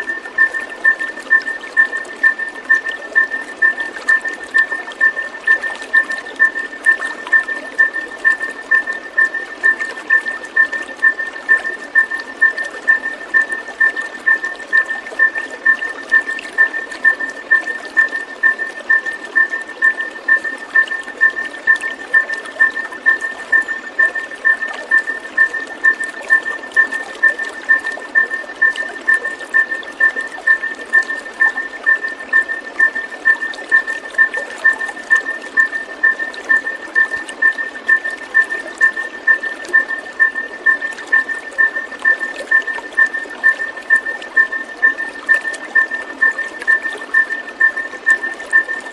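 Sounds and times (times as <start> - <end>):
flowing water: 0.0 - 48.9.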